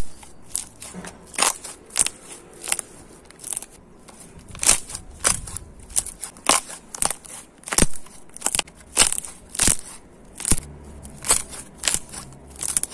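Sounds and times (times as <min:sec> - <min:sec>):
crisp crunches: 0:00.0 - 0:12.9.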